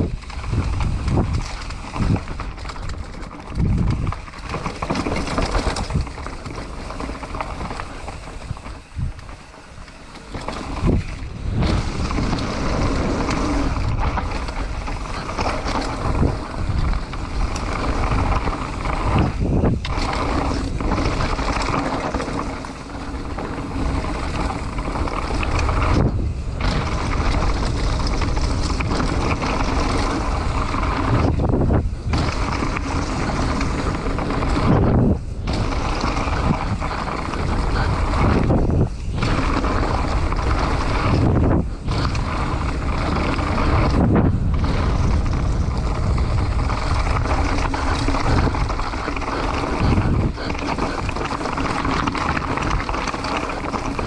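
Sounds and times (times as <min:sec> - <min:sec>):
bike tyres rumbling over dirt: 0:00.0 - 0:54.0
wind buffeting microphone: 0:00.0 - 0:54.0.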